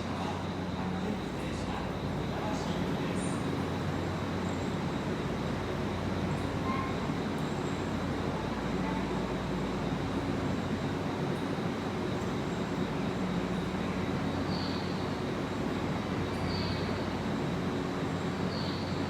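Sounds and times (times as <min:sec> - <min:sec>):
electric train rumble and hum: 0:00.0 - 0:19.0.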